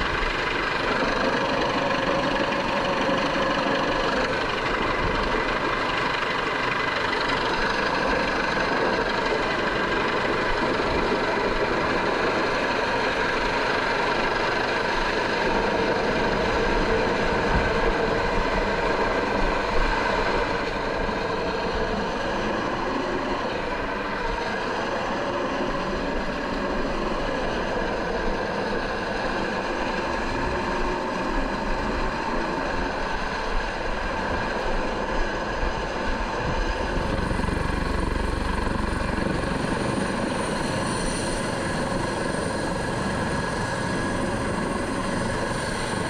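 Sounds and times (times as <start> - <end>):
helicopter rotor noise: 0.0 - 46.0
turbine whine: 0.0 - 46.0.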